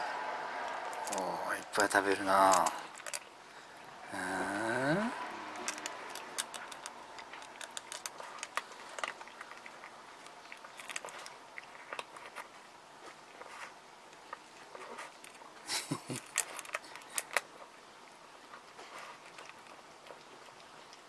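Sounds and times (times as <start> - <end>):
cat crunching food: 0.6 - 3.4, 5.4 - 21.0.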